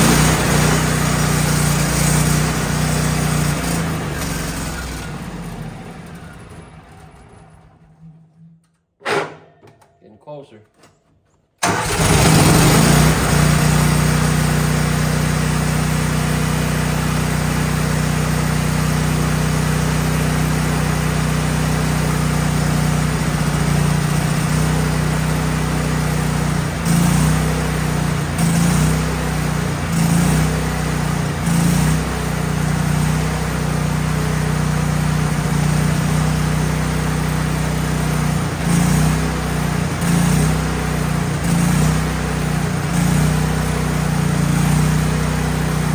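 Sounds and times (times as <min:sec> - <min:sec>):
gas engine running and surging: 0:00.0 - 0:06.8, 0:11.6 - 0:45.9.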